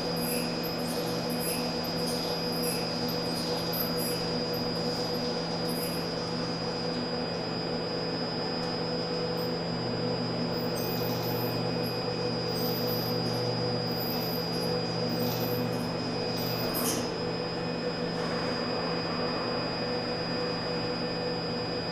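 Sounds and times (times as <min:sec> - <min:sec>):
robot arm servo hum and whine: 0:00.0 - 0:21.9.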